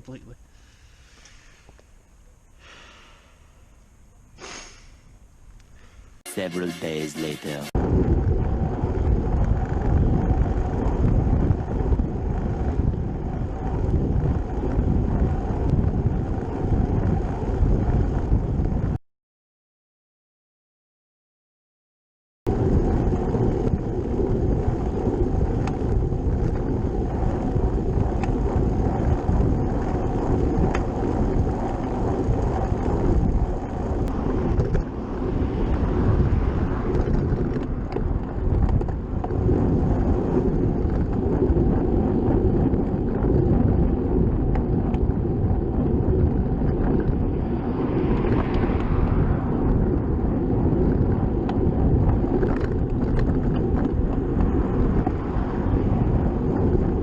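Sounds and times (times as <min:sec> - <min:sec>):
bicycle running noise: 0:06.9 - 0:19.0, 0:22.5 - 0:57.0
wind buffeting microphone: 0:07.7 - 0:19.0, 0:22.5 - 0:57.0.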